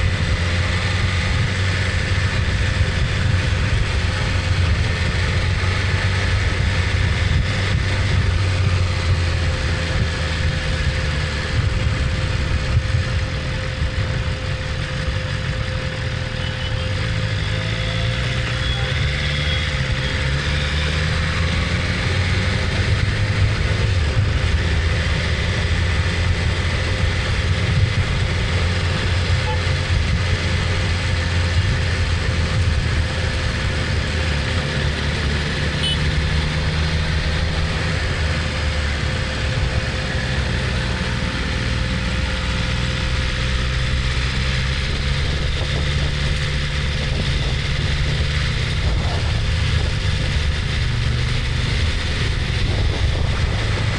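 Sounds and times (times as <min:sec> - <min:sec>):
motorcycle engine running at low revs: 0:00.0 - 0:53.9.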